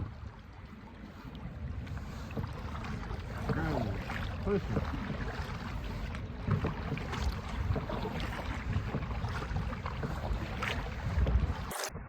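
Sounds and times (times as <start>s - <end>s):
small splashes: 0.0s - 11.9s
wind buffeting microphone: 0.0s - 12.0s.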